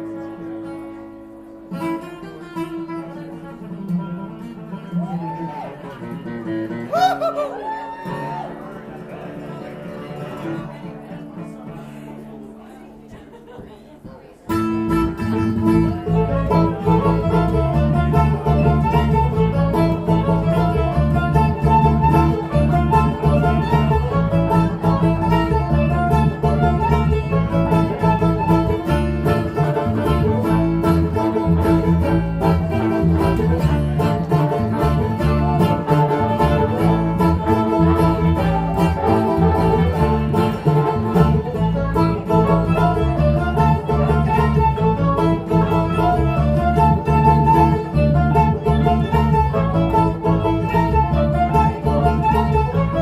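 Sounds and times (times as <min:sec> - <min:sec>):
bluegrass band playing: 0:00.0 - 0:53.0
fiddle: 0:00.0 - 0:53.0
picked banjo: 0:00.0 - 0:53.0.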